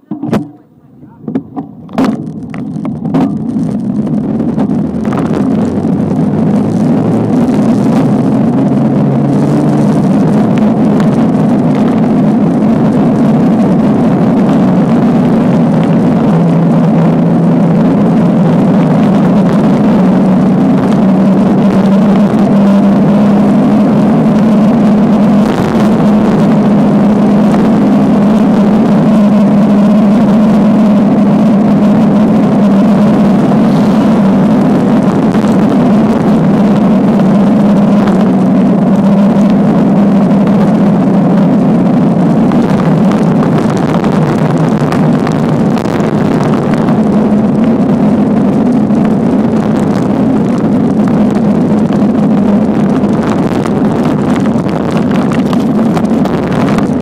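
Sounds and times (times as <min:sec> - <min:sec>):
low hum: 0:00.0 - 0:57.0
tyre roar on asphalt: 0:00.0 - 0:57.0
wind rushing over microphone: 0:01.2 - 0:57.0.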